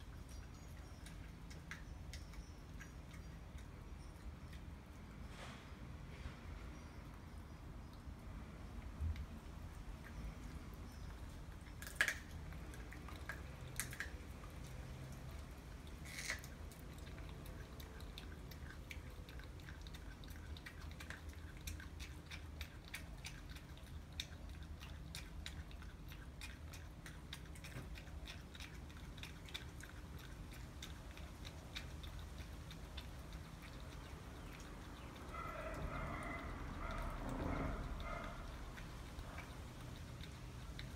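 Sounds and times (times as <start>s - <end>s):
dogs chewing and crunching bones: 0.0s - 5.4s, 6.7s - 40.9s.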